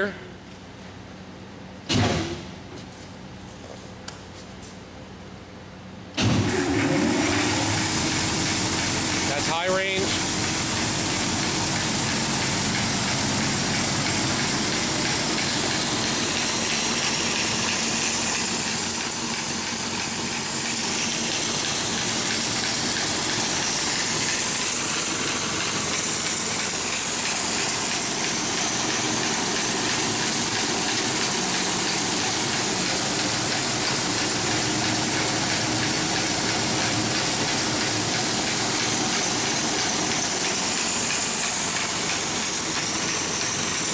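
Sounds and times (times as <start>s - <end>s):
band saw rushing hiss: 7.6s - 43.9s.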